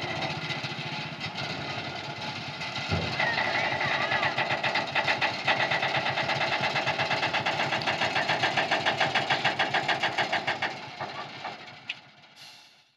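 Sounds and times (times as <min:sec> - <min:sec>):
diesel engine chugging: 0:00.0 - 0:12.9.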